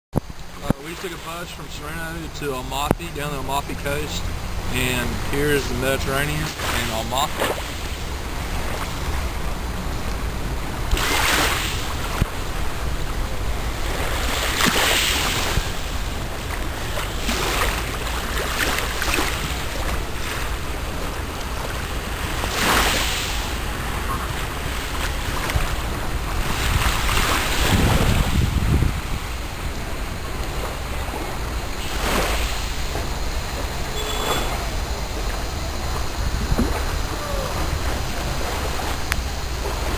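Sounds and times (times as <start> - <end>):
wind rumbling on microphone: 0.2 - 39.9
waves washing on pebble beach: 0.4 - 39.9.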